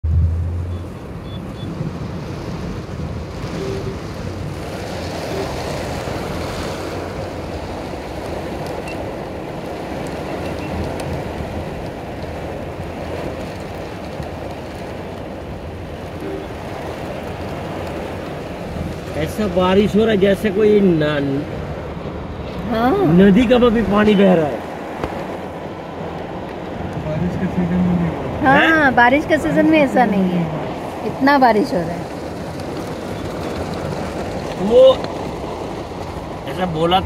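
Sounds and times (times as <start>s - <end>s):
heavy rain on vehicle: 0.0s - 37.0s
traffic on wet road: 0.0s - 37.0s.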